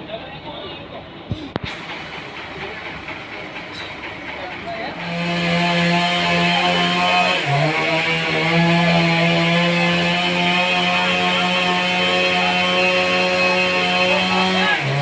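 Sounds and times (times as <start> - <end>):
sawmill sawing a log: 1.7 - 15.0.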